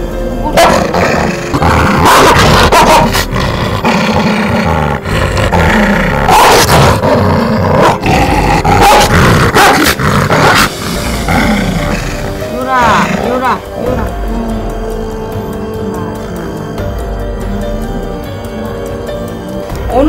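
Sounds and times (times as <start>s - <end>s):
dog growling: 0.4s - 19.7s.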